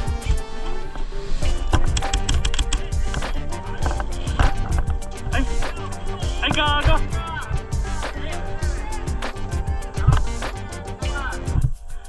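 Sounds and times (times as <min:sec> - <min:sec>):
music with driving beat: 0:00.0 - 0:00.5, 0:01.4 - 0:12.0.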